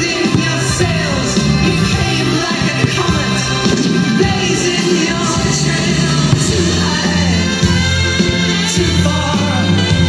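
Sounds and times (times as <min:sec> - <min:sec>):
song with low bass line: 0:00.0 - 0:10.0.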